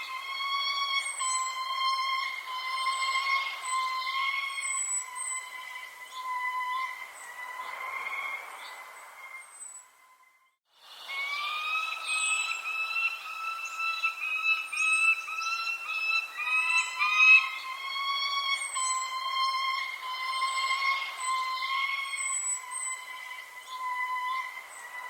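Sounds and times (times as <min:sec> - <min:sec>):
bird singing repeated notes: 0:00.0 - 0:25.0
high falling bird chirps: 0:00.0 - 0:25.0.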